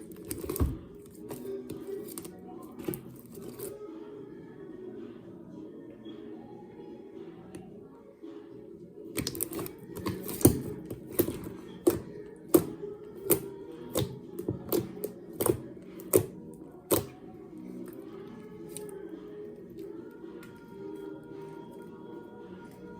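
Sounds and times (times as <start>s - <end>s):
soft background music: 0.0s - 22.9s.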